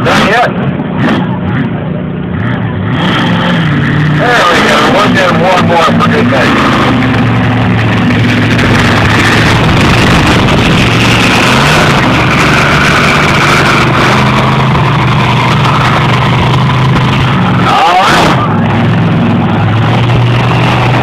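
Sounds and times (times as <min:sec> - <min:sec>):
monster truck engine running: 0:00.0 - 0:21.0.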